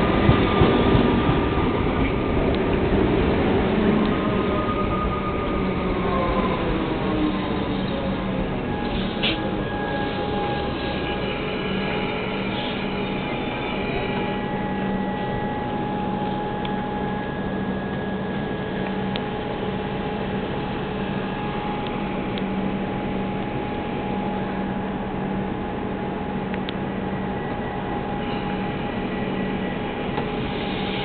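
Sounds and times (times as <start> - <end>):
electric train humming: 0.0 - 31.0.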